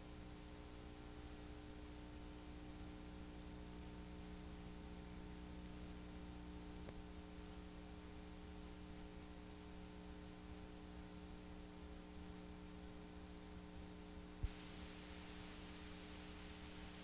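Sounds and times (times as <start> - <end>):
faint electrical hum: 0.0 - 17.0
tape hiss: 0.0 - 17.0.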